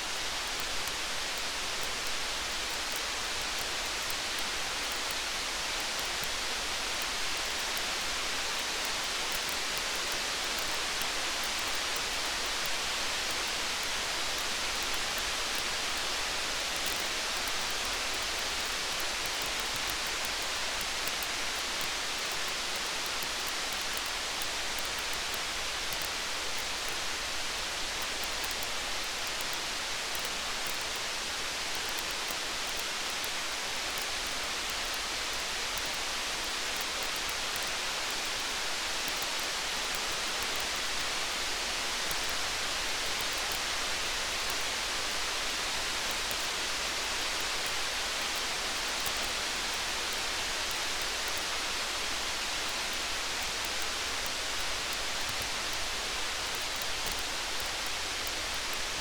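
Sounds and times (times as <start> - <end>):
rain hiss: 0.0 - 59.0.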